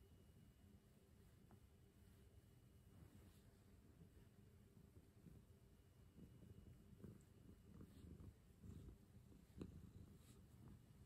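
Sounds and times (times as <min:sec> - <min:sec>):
cat purring: 0:01.4 - 0:11.0.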